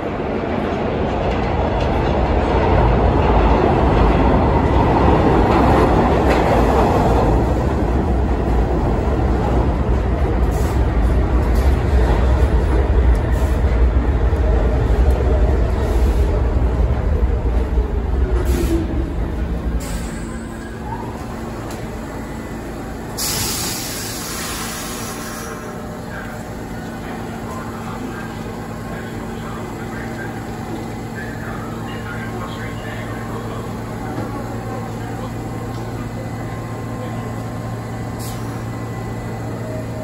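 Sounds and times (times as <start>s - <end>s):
falling whine of train: 0.0s - 40.0s
subway train wheels rumbling: 0.0s - 40.0s.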